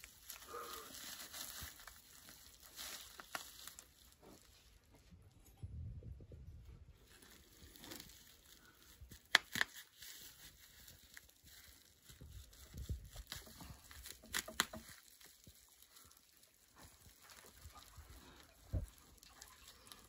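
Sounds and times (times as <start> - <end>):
plastic sack rustling and crinkling: 0.0 - 4.9, 6.9 - 20.0.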